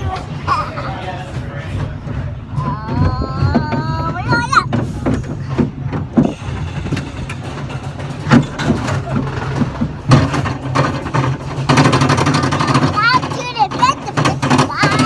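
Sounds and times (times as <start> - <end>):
roller coaster train rumbling: 0.0 - 15.0
wheels knocking and clattering: 0.0 - 15.0.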